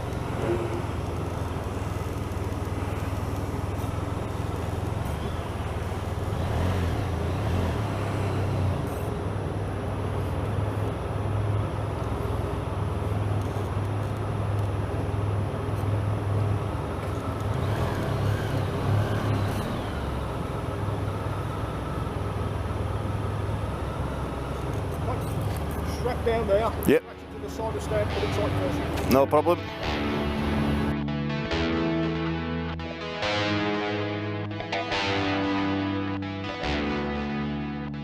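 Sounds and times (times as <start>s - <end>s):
motorcycle engine hum: 0.0s - 36.6s
road and vehicle noise: 0.0s - 38.0s.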